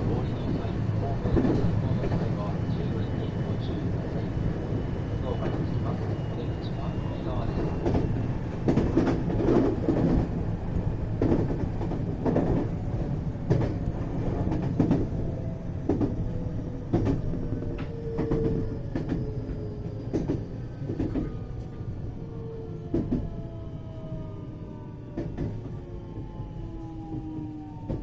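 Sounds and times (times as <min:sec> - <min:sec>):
train rumble on rails: 0:00.0 - 0:28.0.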